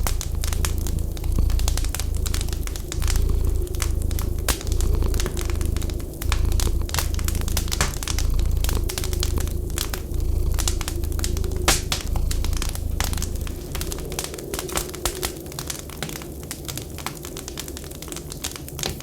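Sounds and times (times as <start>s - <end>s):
low pulsing rumble: 0.0s - 16.0s
wood fire crackling: 0.0s - 19.0s.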